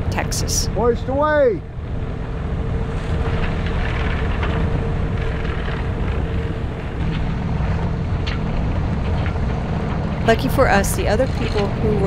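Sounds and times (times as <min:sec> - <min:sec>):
wind rumble: 0:00.0 - 0:12.0
boat motor running: 0:01.7 - 0:12.0.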